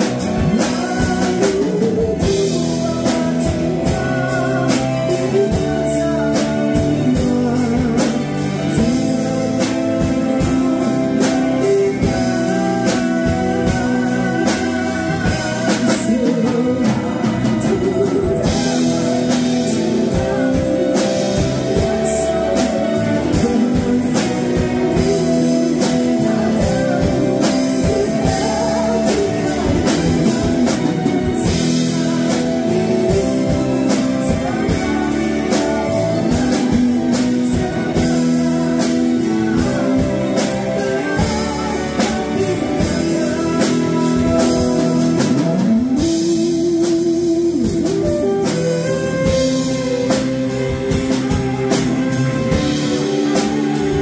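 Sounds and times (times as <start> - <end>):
band playing a song: 0.0 - 54.0
drum kit: 0.0 - 54.0
guitar: 0.0 - 54.0
person singing: 0.0 - 54.0.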